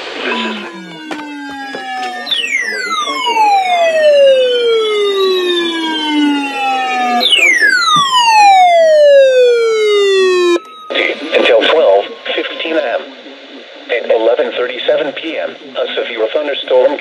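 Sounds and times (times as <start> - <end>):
falling siren-like tones: 0.0 - 14.0.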